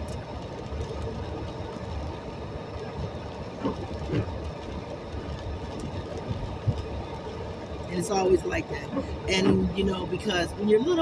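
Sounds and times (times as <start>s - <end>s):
car driving on wet road: 0.0s - 11.0s.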